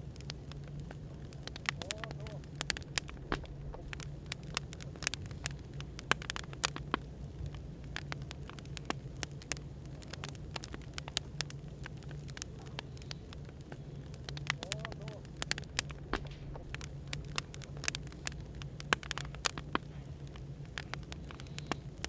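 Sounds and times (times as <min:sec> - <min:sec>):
firewood crackling and popping: 0:00.0 - 0:22.0
low hum of white noise: 0:00.0 - 0:22.0.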